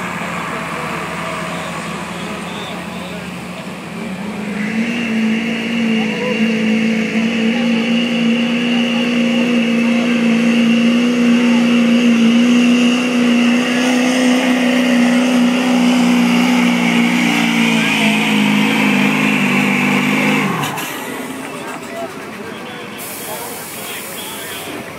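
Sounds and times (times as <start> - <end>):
diesel engine at high revs: 0.0 - 24.9.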